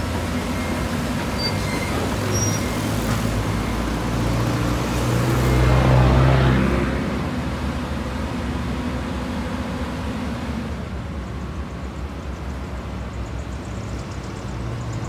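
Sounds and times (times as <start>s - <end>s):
heavy diesel engine passing: 0.0s - 15.0s.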